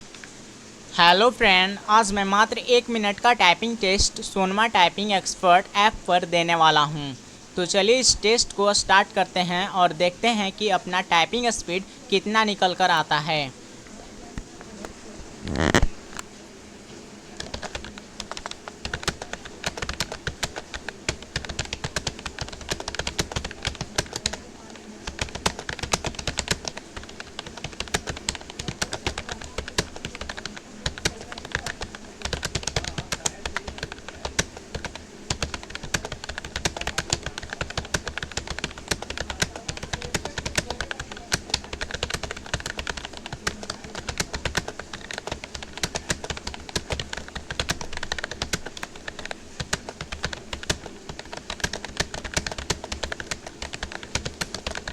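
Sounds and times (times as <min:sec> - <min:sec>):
keyboard typing: 0:07.9 - 0:16.3, 0:17.3 - 0:54.9.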